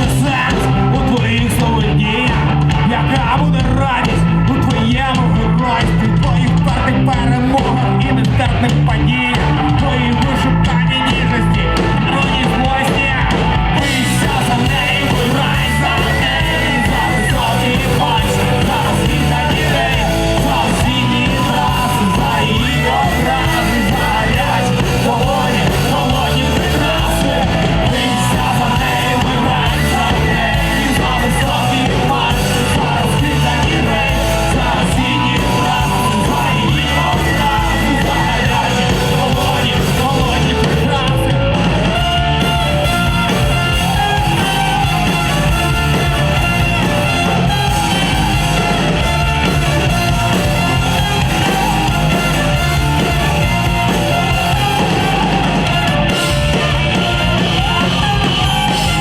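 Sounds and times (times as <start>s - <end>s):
live rock band playing: 0.0s - 59.0s
person yelling singing: 0.0s - 59.0s.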